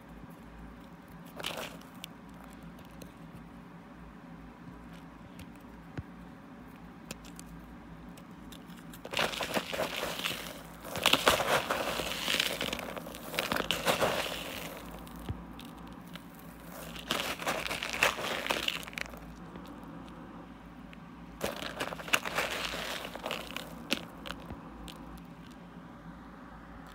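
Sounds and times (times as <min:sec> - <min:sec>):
fingers crunching granules: 0:00.0 - 0:03.5, 0:06.7 - 0:20.2, 0:20.8 - 0:25.6.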